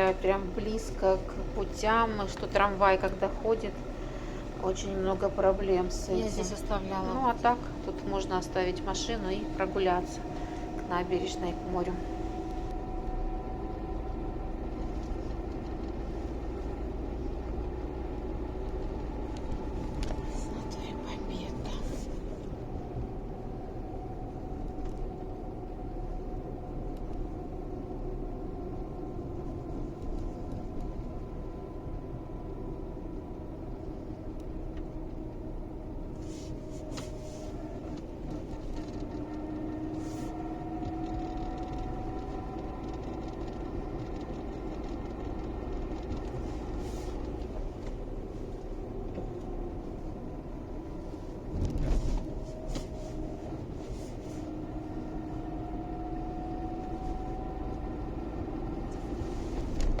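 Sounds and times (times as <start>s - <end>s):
car engine accelerating: 0.0s - 60.0s
road rumble: 0.0s - 60.0s.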